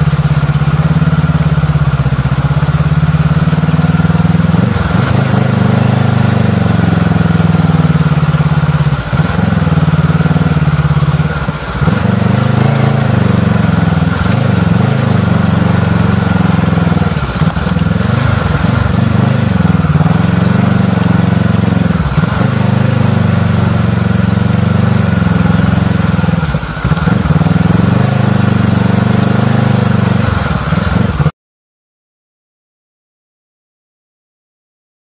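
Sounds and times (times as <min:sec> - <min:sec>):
motorcycle engine at low revs: 0:00.0 - 0:31.3.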